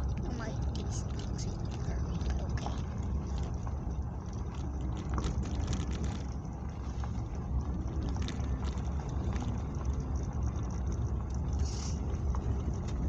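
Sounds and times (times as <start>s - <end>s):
faint ticks and taps: 0.1s - 13.0s.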